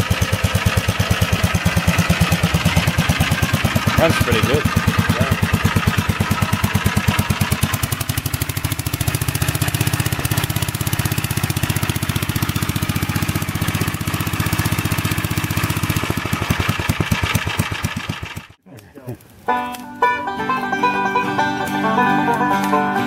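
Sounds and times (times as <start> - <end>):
single-cylinder engine running: 0.0 - 18.6.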